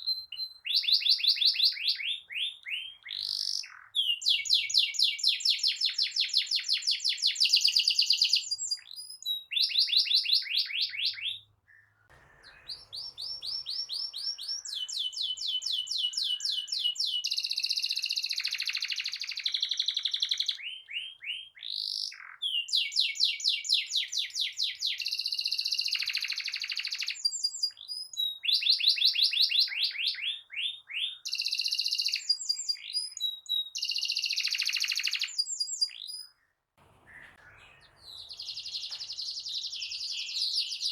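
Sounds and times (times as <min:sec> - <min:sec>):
canary trilling song: 0:00.0 - 0:40.9.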